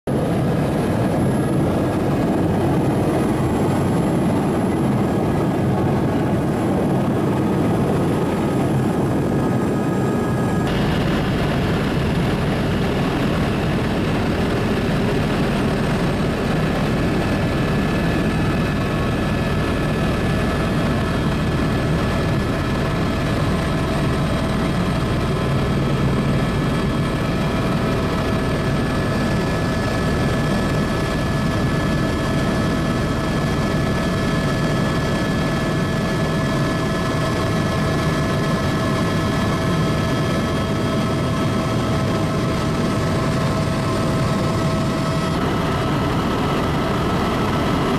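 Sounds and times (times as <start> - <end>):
helicopter rotor and engine rush: 0.0 - 47.9.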